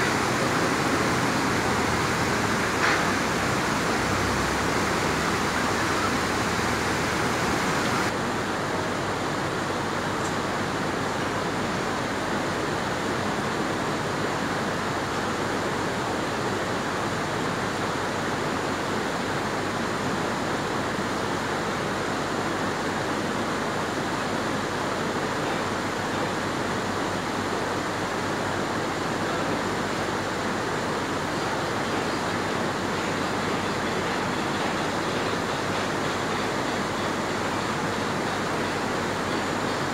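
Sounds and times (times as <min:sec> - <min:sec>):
faint excavator diesel engine: 0:00.0 - 0:13.2, 0:14.5 - 0:39.9
river rushing over rapids: 0:00.0 - 0:39.9.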